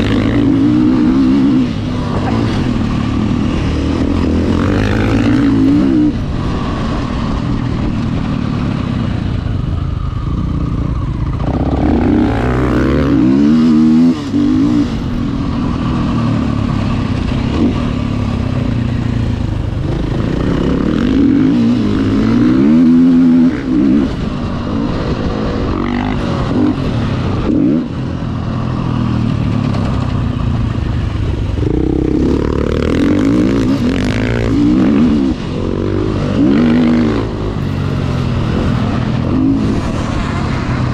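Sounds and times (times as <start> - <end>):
dirt bike engine revving: 0.0 - 9.4, 10.2 - 40.9.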